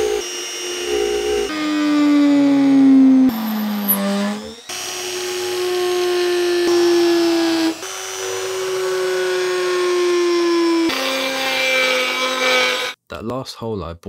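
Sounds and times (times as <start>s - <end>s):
rotary tool motor whine: 0.0s - 13.0s.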